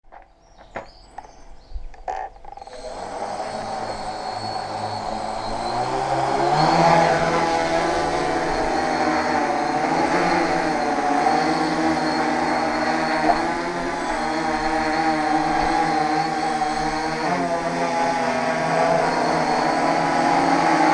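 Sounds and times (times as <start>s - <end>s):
drone propellers buzzing: 1.0s - 20.9s.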